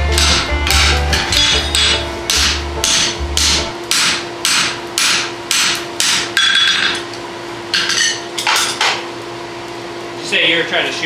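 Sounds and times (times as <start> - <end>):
hammer striking hot metal on anvil: 0.0 - 9.0.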